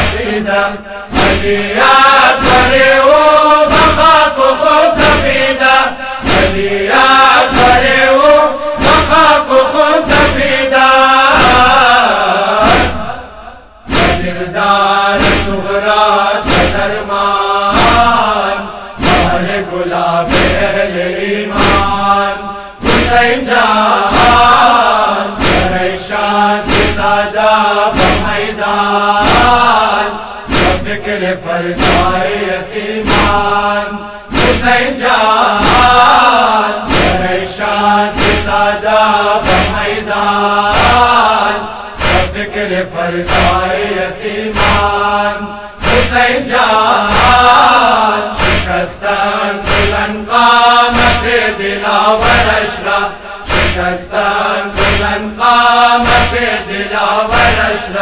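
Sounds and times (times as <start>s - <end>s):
chest-beating strokes: 0.0s - 58.0s
men chanting in unison: 0.0s - 58.0s.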